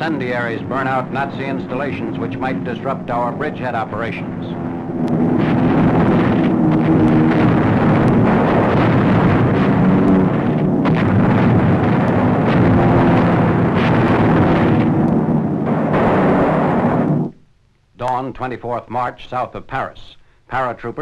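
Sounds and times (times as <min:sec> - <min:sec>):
sharp cracks: 0:00.0 - 0:18.2
rumble of explosions and fire: 0:00.0 - 0:21.0.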